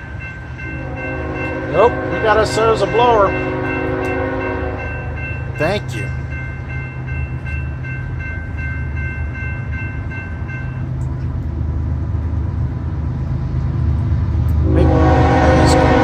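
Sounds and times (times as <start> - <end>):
railroad crossing bell ringing: 0.0 - 11.5, 14.6 - 16.0
diesel locomotive rumble: 0.0 - 16.0.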